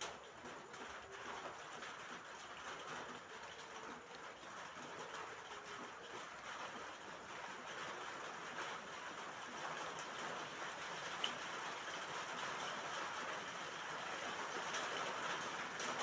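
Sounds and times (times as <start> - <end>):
rain on a roof: 0.0 - 16.0.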